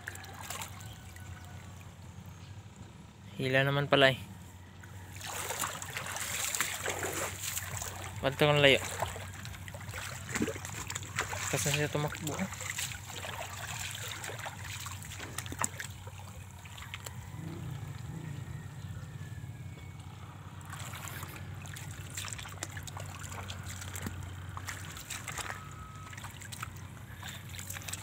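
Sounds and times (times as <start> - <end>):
water trickling and lapping: 0.0 - 3.2, 4.5 - 28.0
steady low hum: 0.0 - 28.0.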